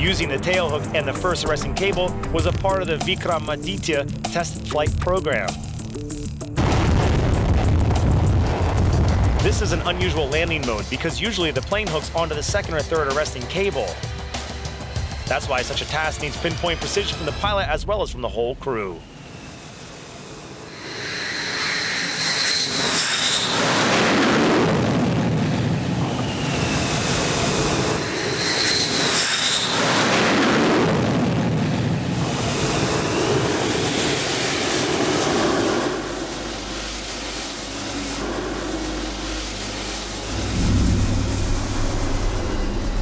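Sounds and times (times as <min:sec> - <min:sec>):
jet engine roar with whine: 0:00.0 - 0:43.0.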